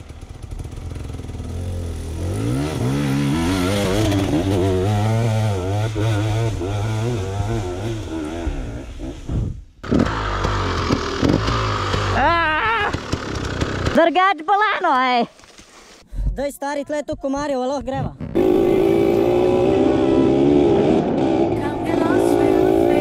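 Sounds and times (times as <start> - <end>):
dirt bike engine revving: 0.0 - 14.0, 18.4 - 23.0.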